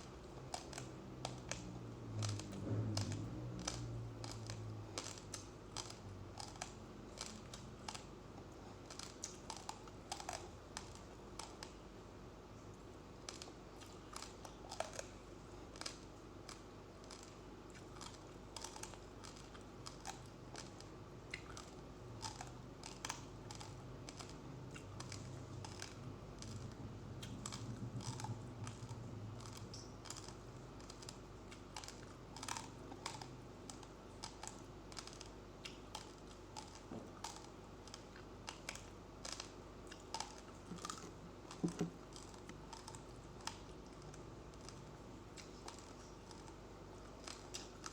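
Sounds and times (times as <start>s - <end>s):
chewing raw rice crunches: 0.0s - 47.9s.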